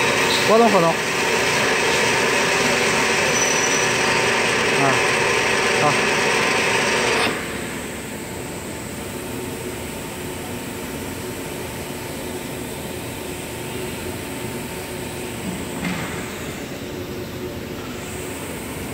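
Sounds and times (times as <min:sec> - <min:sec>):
vacuum pump humming: 0:00.0 - 0:18.9.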